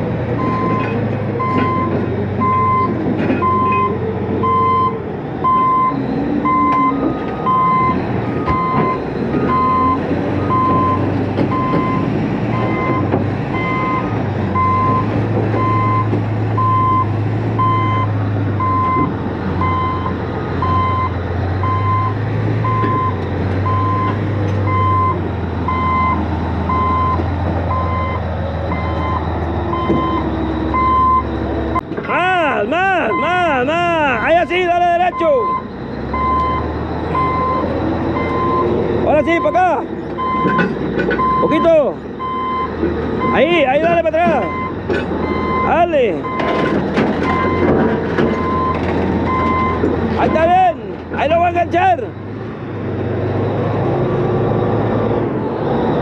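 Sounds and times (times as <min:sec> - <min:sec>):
diesel engine running: 0:00.0 - 0:56.0
backup alarm beeping: 0:00.4 - 0:31.8, 0:33.0 - 0:33.6, 0:34.2 - 0:47.7, 0:48.3 - 0:50.5.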